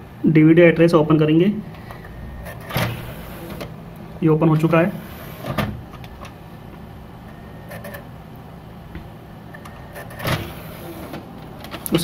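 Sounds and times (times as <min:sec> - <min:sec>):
desktop computer humming: 0:00.6 - 0:12.0.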